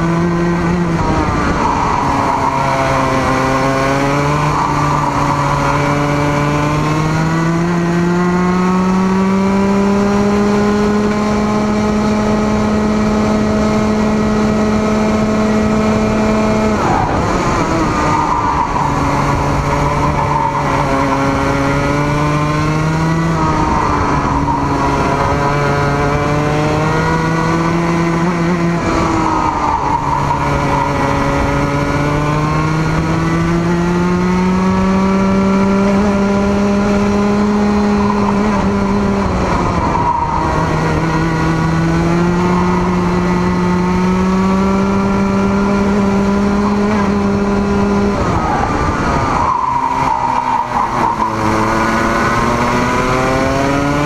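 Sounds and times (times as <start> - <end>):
racing kart engine at full throttle: 0.0 - 54.0.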